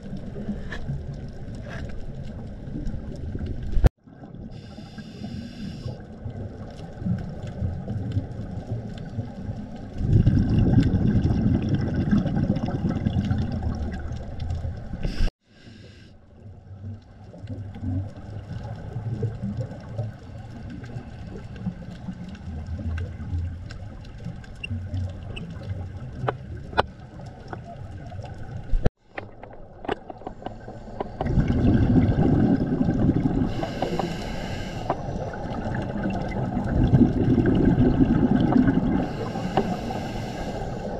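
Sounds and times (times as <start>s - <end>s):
regulator bubbles underwater: 0.0s - 15.3s, 16.3s - 40.9s
quiet underwater rumbling: 0.0s - 40.9s.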